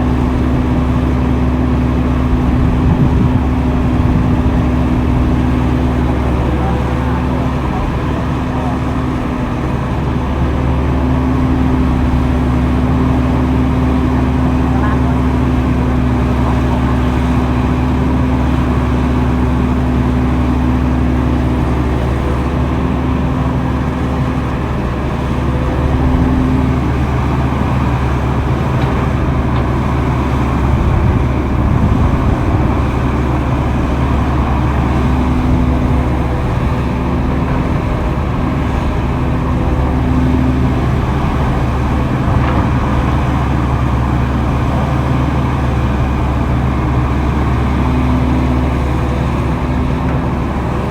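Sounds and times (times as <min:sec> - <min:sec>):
diesel earthmoving machinery running: 0:00.0 - 0:50.9.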